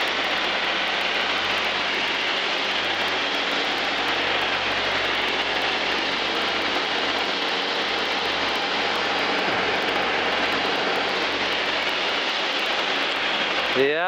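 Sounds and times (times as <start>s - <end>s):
propeller aircraft engine drone: 0.0s - 14.0s
rush of airflow: 0.0s - 14.0s.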